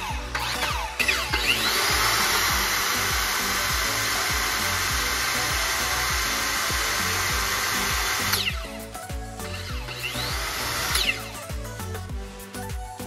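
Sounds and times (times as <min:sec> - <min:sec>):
power tool motor running: 0:00.0 - 0:08.8, 0:09.4 - 0:11.4.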